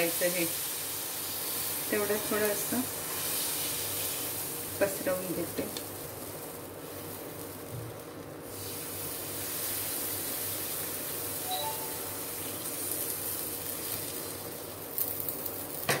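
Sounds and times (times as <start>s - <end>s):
batter sizzling in oil: 0.0s - 16.0s.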